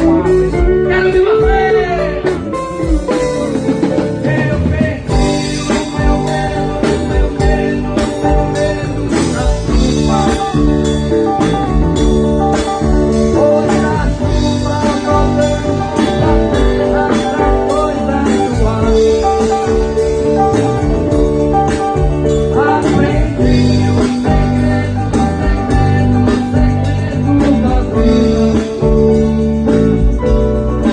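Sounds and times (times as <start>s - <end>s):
band playing music: 0.0s - 30.9s
person singing: 0.0s - 30.9s.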